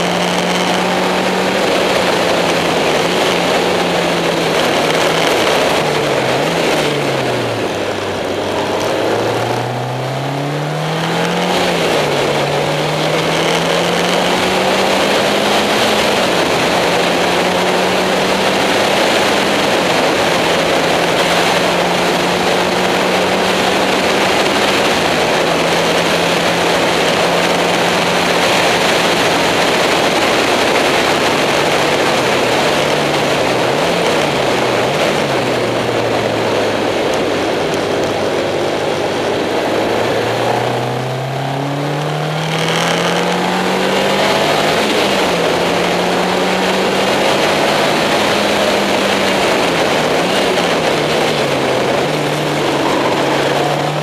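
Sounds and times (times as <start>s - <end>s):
race car engine revving: 0.0s - 54.0s
tyre noise: 0.0s - 54.0s
wind noise: 0.0s - 54.0s.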